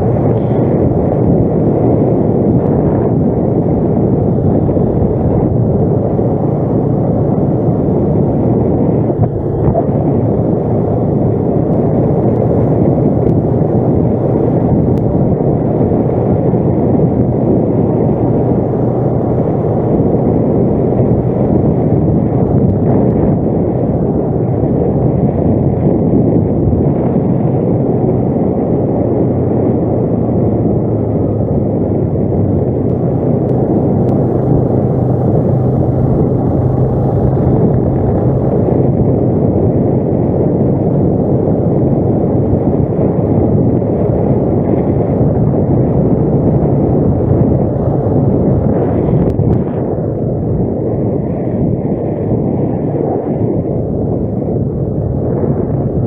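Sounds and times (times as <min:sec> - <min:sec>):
atv engine droning: 0:00.0 - 0:56.0.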